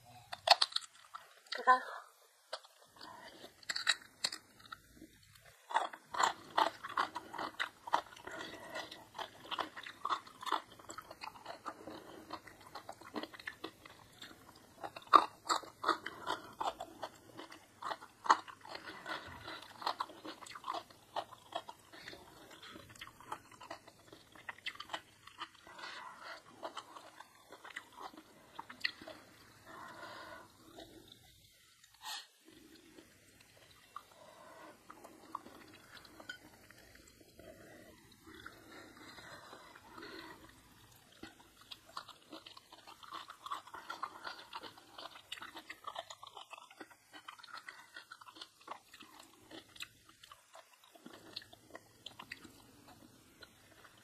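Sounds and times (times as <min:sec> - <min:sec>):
chewing crunchy food: 0:00.0 - 0:54.0.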